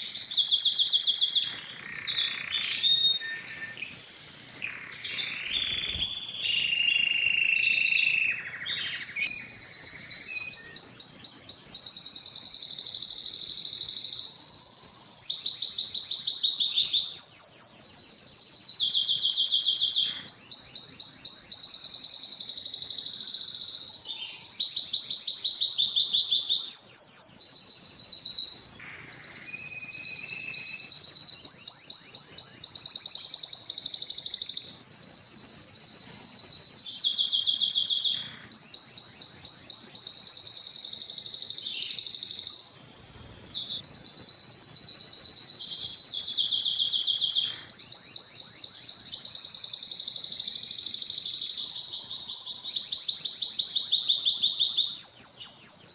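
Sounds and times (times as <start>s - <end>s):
canary singing fast trills: 0.0s - 55.9s.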